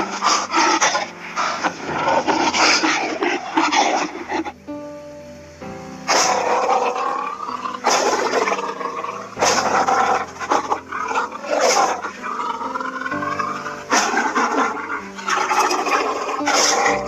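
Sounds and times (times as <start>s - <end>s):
lion roaring: 0.0s - 4.5s, 6.1s - 17.0s.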